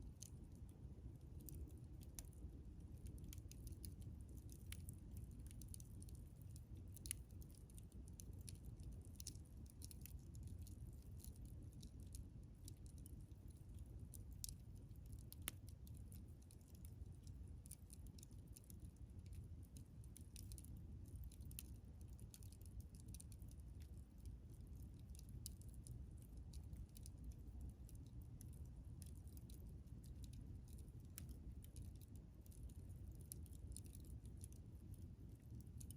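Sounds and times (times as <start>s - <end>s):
campfire crackling: 0.0s - 35.9s
low steady rumble: 0.0s - 35.9s.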